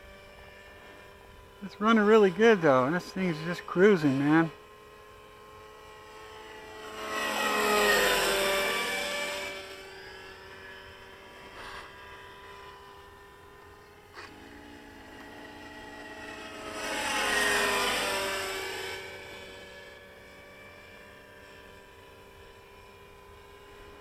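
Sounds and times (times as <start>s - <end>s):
model helicopter engine whine: 0.0s - 24.0s.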